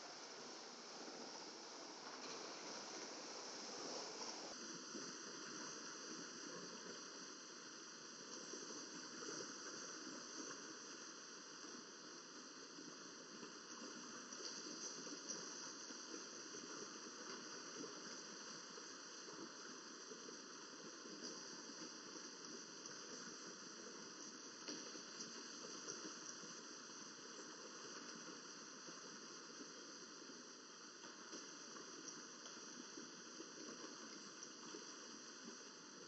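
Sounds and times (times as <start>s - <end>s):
faint background hiss: 0.0s - 36.0s.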